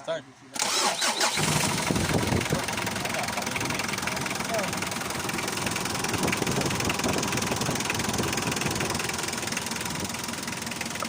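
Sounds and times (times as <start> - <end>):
diesel engine running: 0.6 - 11.0.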